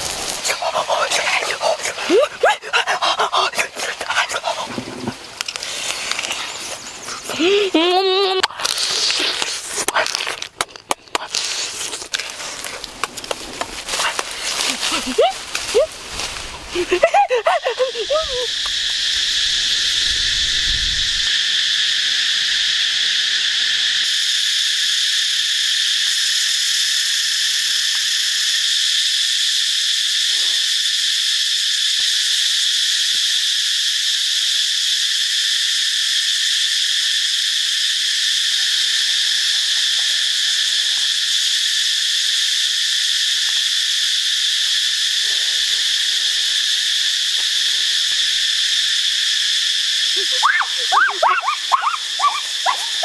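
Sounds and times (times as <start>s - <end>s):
insect chorus drone: 0.0s - 53.0s.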